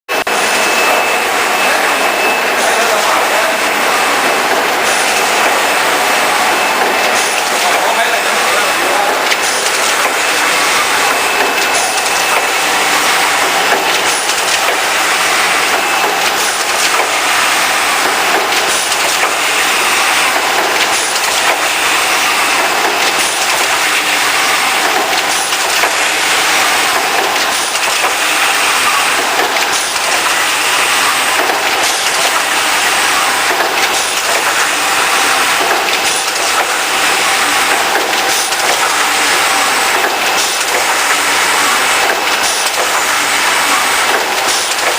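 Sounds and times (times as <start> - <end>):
milling machine running: 0.1 - 44.9.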